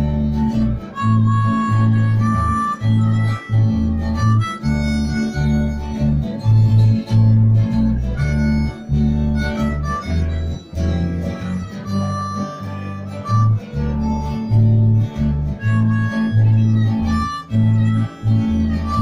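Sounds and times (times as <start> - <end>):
guitar: 0.0 - 19.0
harmonica melody: 0.0 - 19.0
low bass notes: 0.0 - 19.0.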